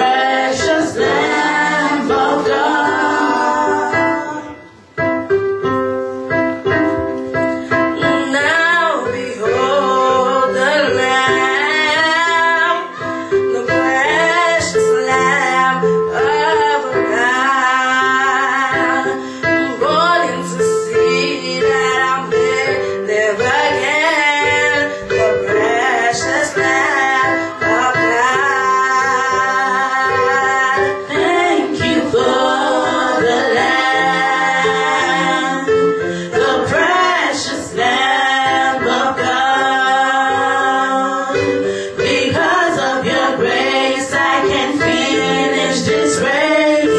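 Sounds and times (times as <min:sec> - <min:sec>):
voices singing: 0:00.0 - 0:04.9, 0:08.0 - 0:46.9
held keyboard chords: 0:00.0 - 0:46.9.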